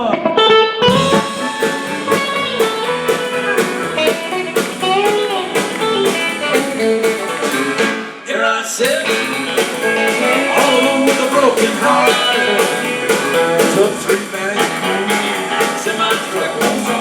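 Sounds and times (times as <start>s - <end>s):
guitar: 0.0s - 17.0s
country rock band playing: 0.3s - 8.2s, 8.8s - 17.0s
steady drum beat: 0.9s - 8.0s, 8.9s - 17.0s.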